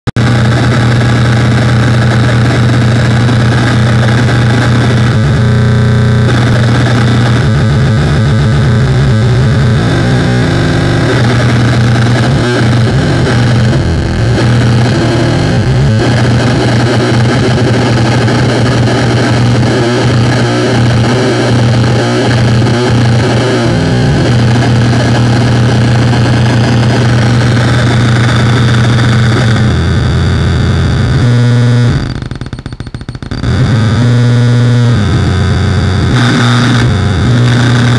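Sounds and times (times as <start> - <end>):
electronic buzzing drone: 0.1 - 37.9.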